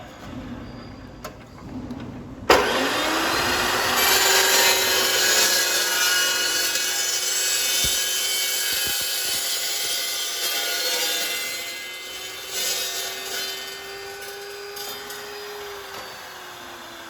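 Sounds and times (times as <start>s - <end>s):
circular saw cutting steel: 2.5s - 17.0s.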